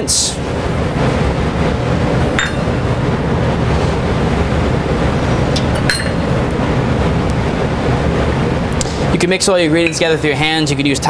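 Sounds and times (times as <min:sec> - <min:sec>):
low kitchen rumble: 0:00.0 - 0:11.0.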